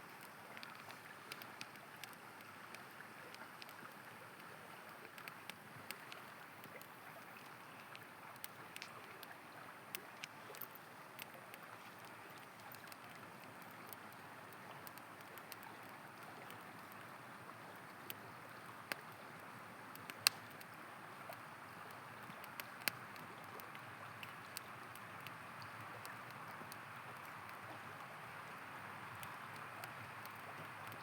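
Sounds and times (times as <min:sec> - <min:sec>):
campfire crackling and popping: 0:00.0 - 0:31.0
river flowing: 0:00.0 - 0:31.0.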